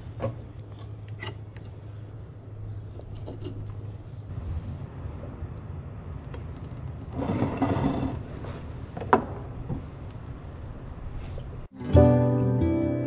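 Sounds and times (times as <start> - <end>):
low steady hum: 0.0 - 11.7.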